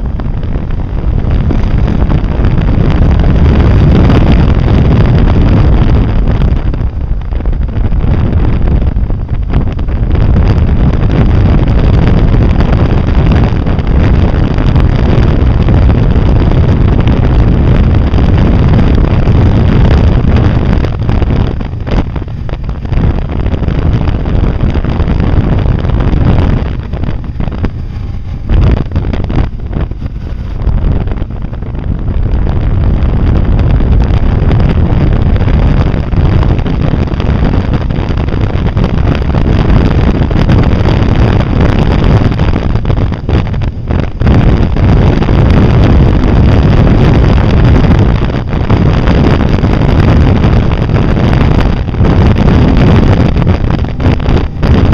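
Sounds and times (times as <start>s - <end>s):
road noise: 0.0s - 54.9s
vehicle engine: 0.0s - 54.9s
wind buffeting microphone: 0.0s - 54.9s.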